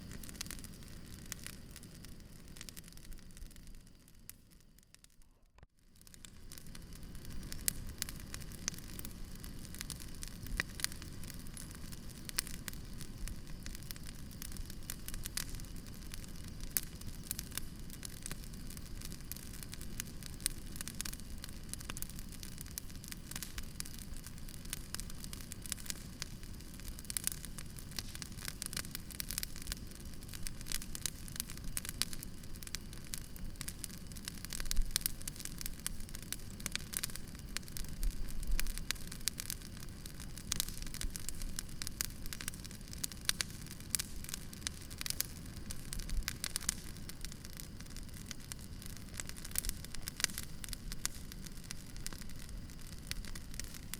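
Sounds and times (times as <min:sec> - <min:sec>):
burning wood popping: 0:00.0 - 0:53.9
campfire crackling: 0:00.0 - 0:53.9.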